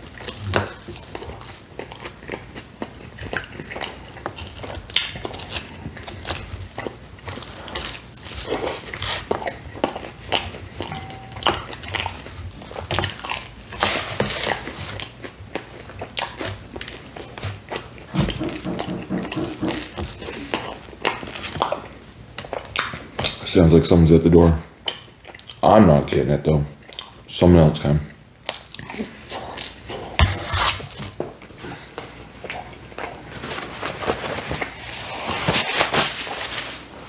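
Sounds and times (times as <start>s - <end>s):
chewing with wet smacks and crunches: 0.0s - 30.2s, 30.8s - 33.7s.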